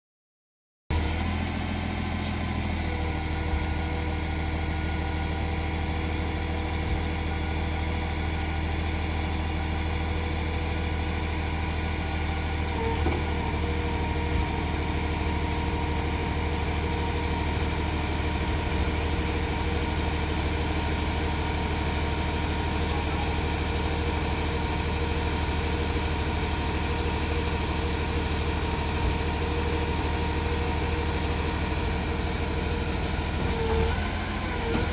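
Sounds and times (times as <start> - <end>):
forklift diesel engine running: 0.9 - 34.9.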